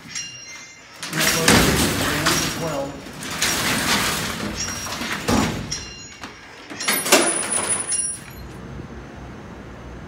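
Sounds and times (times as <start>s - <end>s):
gate rattling clanks: 0.0s - 8.5s.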